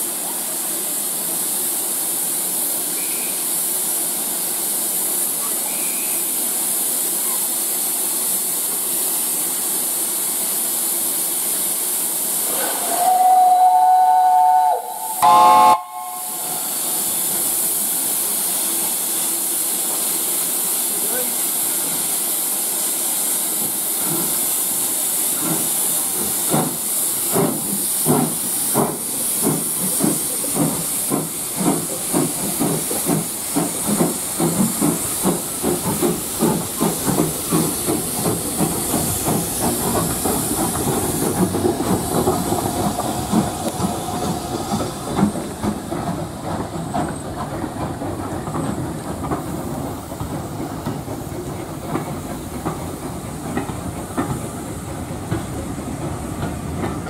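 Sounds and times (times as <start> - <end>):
loud hiss of steam: 0.0 - 57.0
steam engine exhaust beats: 7.7 - 19.1, 21.8 - 57.0.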